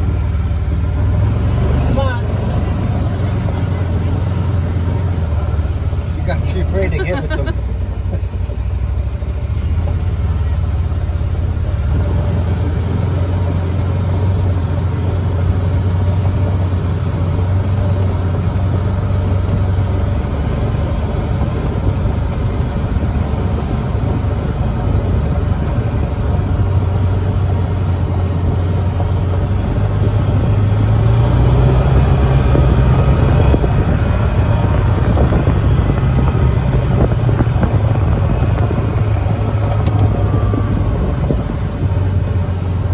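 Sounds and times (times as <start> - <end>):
farm vehicle engine running: 0.0 - 42.9
road rumble: 0.0 - 42.9
wind: 0.0 - 42.9.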